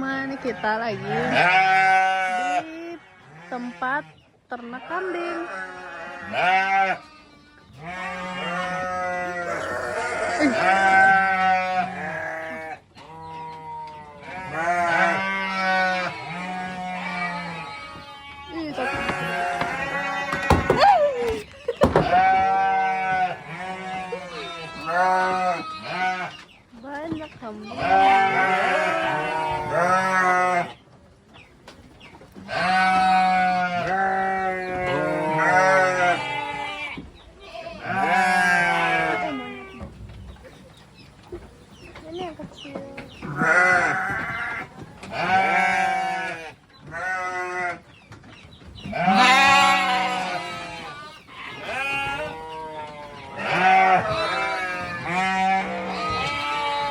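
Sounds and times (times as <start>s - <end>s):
goats bleating: 0.0s - 4.0s, 4.6s - 26.4s, 27.4s - 30.8s, 32.4s - 39.9s, 42.1s - 47.8s, 48.8s - 56.9s.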